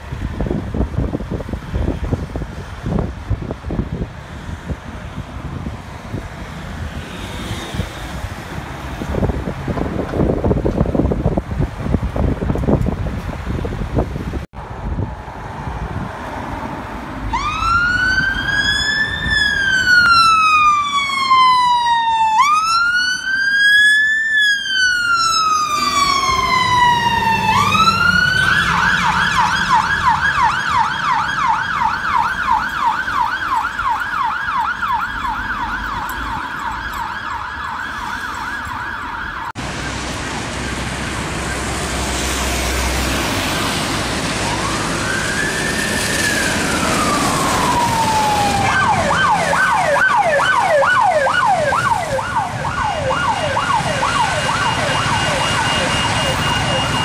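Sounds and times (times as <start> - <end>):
fire engine siren: 0.0 - 12.5, 17.2 - 57.0
street and traffic noise: 0.0 - 57.0.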